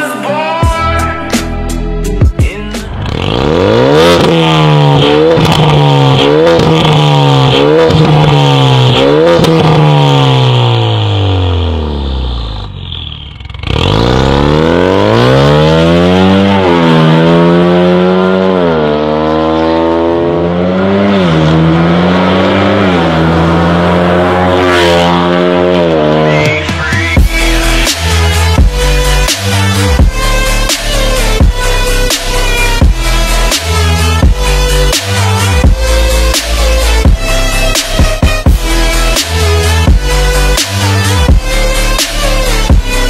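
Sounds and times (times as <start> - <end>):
car engine revving: 0.7 - 43.0.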